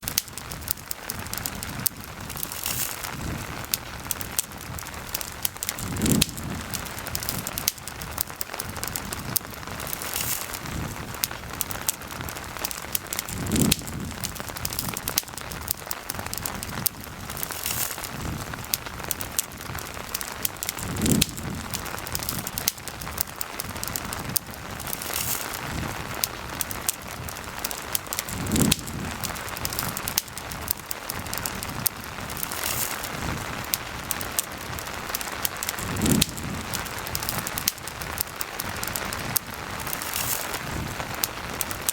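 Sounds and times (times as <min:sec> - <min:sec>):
campfire crackling and popping: 0:00.0 - 0:41.9
steady rain: 0:00.0 - 0:41.9.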